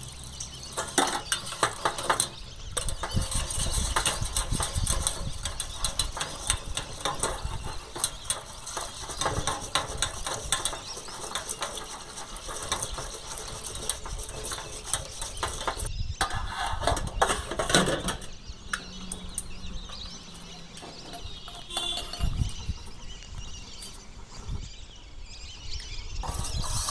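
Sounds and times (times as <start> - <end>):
strainer clinking against steel basin: 0.0 - 15.9, 16.8 - 22.8.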